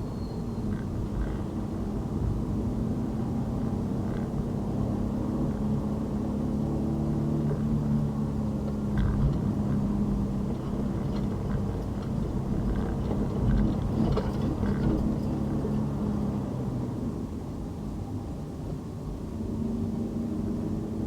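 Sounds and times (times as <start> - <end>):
car engine hum: 0.0 - 21.0
road rumble: 0.0 - 21.0.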